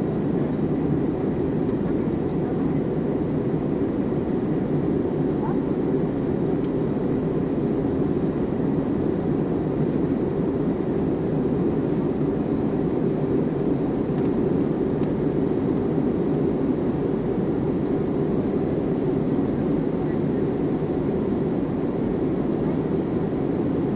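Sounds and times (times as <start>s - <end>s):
jet engines at climb power: 0.0s - 23.9s.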